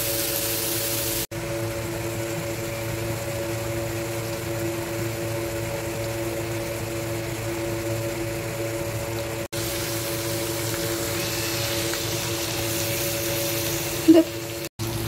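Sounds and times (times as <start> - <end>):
prawns sizzling in hot oil: 0.0 - 15.0.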